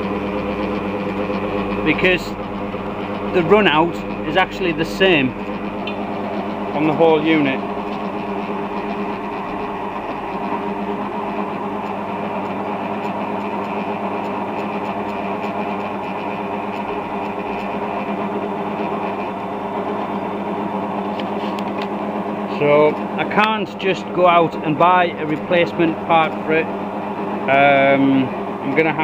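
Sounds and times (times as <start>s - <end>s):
pillar drill motor hum: 0.0s - 29.0s.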